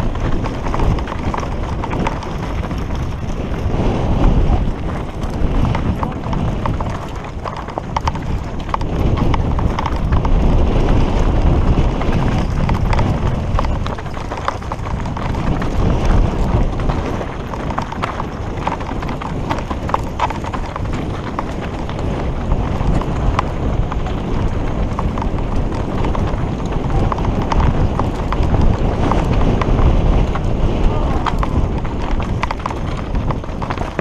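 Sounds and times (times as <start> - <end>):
bike chain slap and rattling: 0.0 - 34.0
tyres crunching over stones: 0.0 - 34.0.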